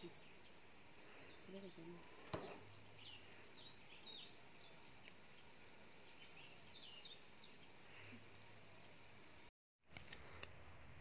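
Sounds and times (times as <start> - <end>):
small birds chirping: 0.0 - 9.5
faint outdoor background noise: 0.0 - 11.0.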